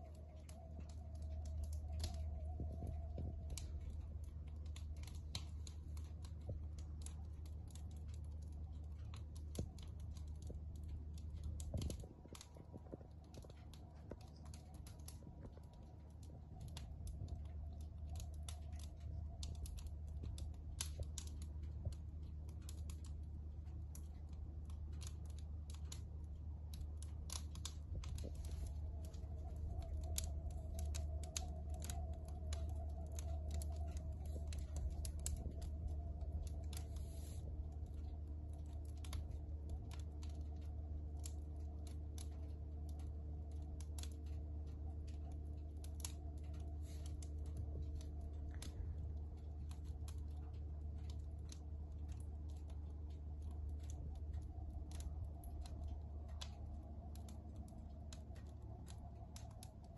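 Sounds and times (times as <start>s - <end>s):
steady low hum: 0.0s - 59.9s
wood fire crackling: 0.0s - 59.9s.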